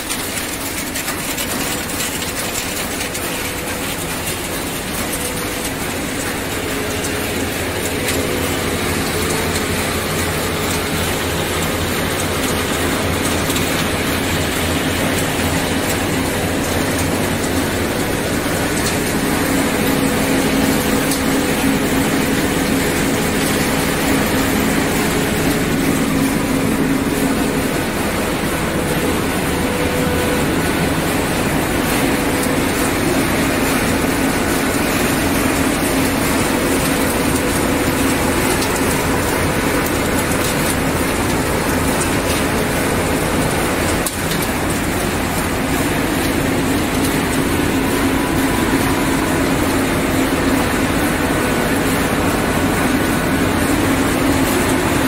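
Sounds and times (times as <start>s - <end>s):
industrial machinery din: 0.0s - 55.0s.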